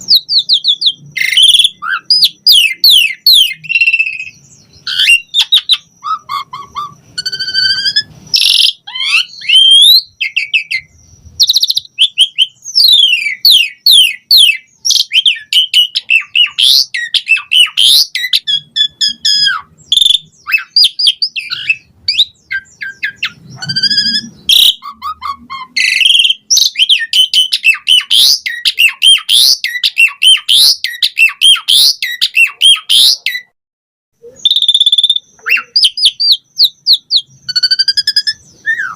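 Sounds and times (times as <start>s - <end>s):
starling singing: 0.0s - 33.6s, 34.2s - 38.9s.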